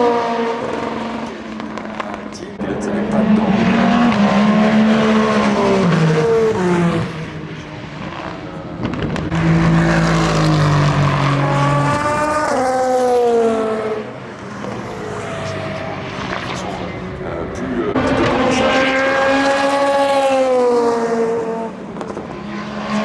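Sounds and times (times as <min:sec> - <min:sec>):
race cars passing at speed: 0:00.0 - 0:23.0.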